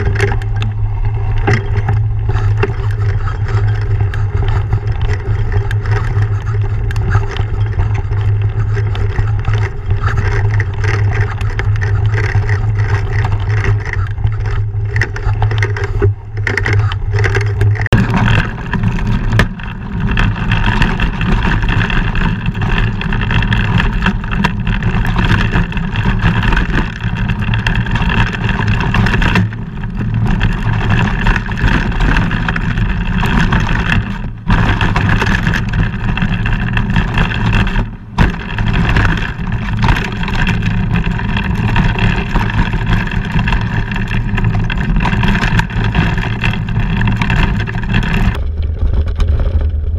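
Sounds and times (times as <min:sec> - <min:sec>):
bike tyres rumbling on dirt: 0:00.0 - 0:49.9
knocks and rattles: 0:00.0 - 0:49.9
wind rushing over microphone: 0:00.0 - 0:49.9.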